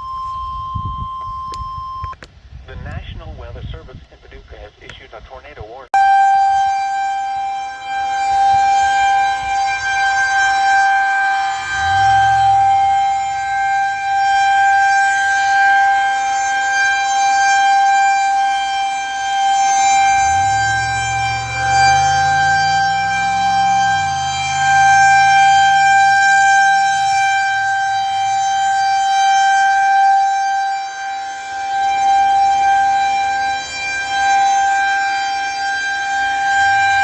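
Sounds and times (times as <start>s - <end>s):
rotating warning siren: 0.0s - 2.3s, 6.0s - 37.0s.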